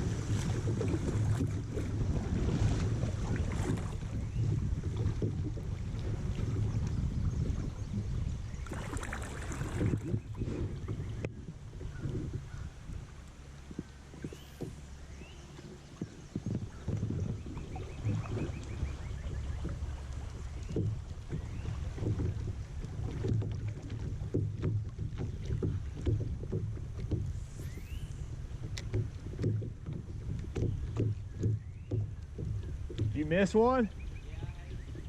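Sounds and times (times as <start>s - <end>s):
kayak paddle strokes: 0.0s - 35.0s
low rumble: 0.0s - 35.0s.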